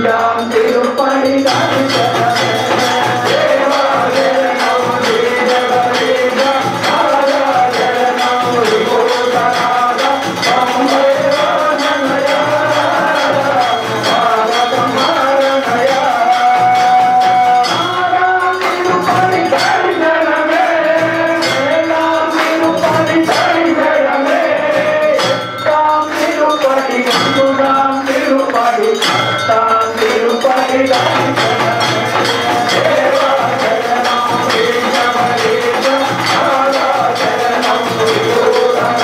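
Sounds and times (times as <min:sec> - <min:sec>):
regular percussion strikes: 0:00.0 - 0:39.0
wavering devotional melody: 0:00.0 - 0:39.0.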